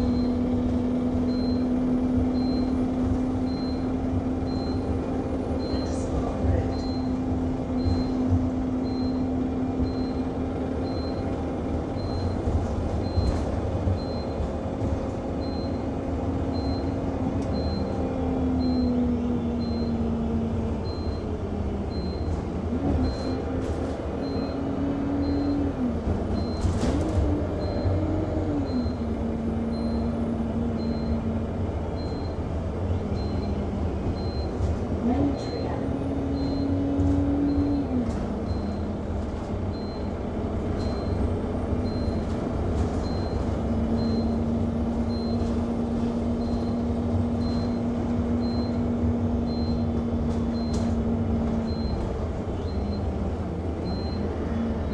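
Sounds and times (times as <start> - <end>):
bus engine hum: 0.0 - 54.9.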